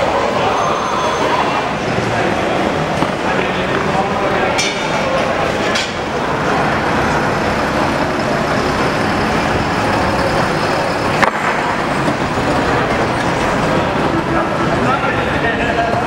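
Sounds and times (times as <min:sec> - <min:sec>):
bus engine running: 0:01.6 - 0:16.0.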